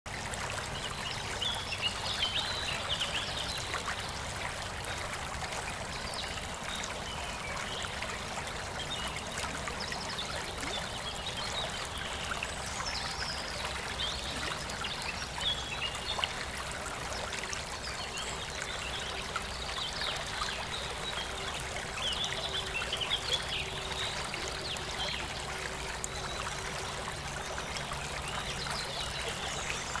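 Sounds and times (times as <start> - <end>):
stream babbling over stones: 0.1 - 30.0.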